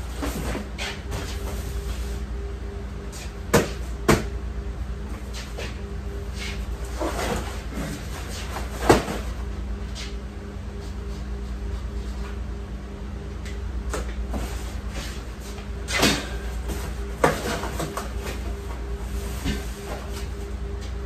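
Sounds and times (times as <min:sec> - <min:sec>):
refrigeration unit humming: 0:00.0 - 0:21.0.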